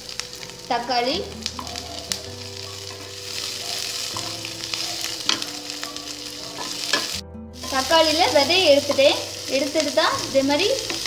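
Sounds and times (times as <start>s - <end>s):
vegetables sizzling in oil: 0.0s - 11.0s
spatula knocking pan: 1.5s - 11.0s.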